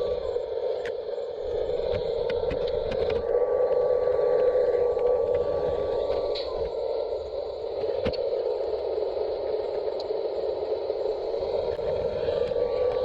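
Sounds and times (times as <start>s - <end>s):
model locomotive motor humming: 0.0s - 13.0s.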